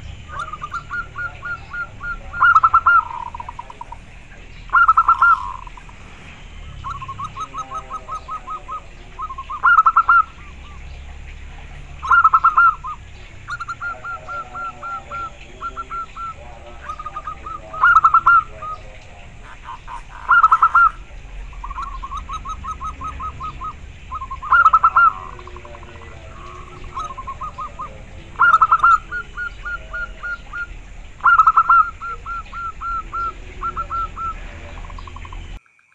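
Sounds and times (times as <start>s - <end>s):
dove cooing song: 0.0s - 35.6s.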